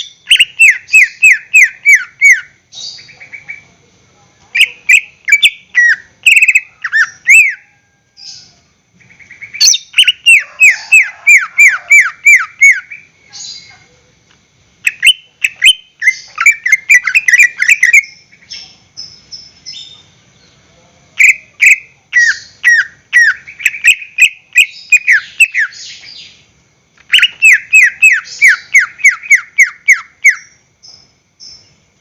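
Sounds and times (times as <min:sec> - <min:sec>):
bird singing whistled notes: 0:00.0 - 0:03.6, 0:04.6 - 0:13.7, 0:14.9 - 0:20.6, 0:21.2 - 0:26.4, 0:27.1 - 0:31.8.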